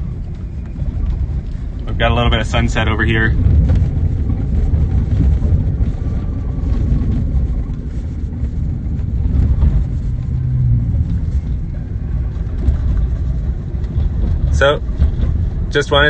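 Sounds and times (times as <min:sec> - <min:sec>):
tyre and wind rumble inside vehicle: 0:00.0 - 0:16.0.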